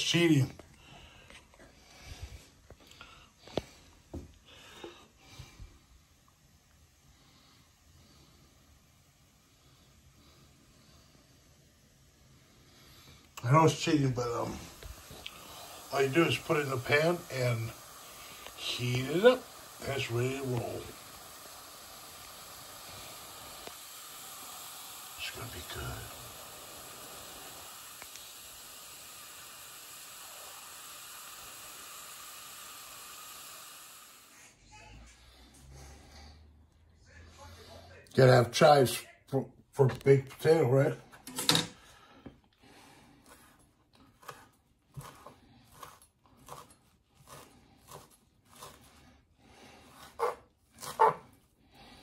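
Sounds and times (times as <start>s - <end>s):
soft hiss of food heating in pot: 0.0s - 52.0s.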